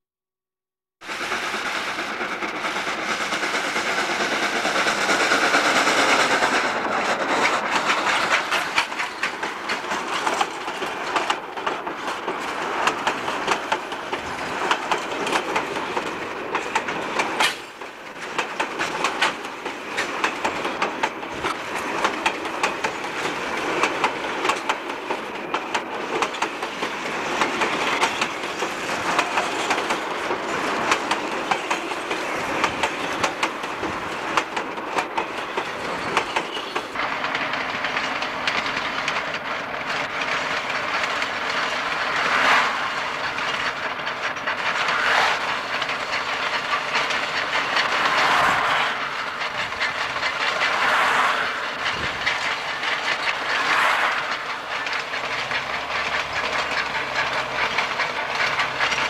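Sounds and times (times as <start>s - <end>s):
steam locomotive passing: 1.0s - 59.0s
train wheels clicking over rail joints: 1.0s - 59.0s.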